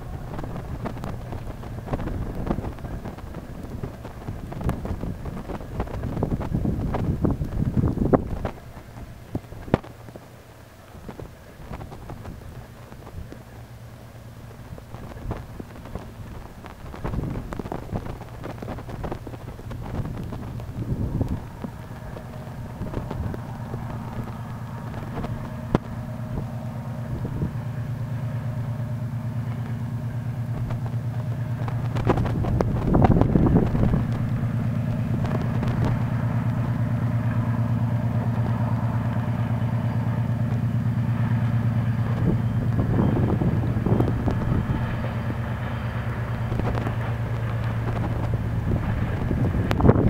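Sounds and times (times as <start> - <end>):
diesel locomotive engine droning: 0.0 - 50.0.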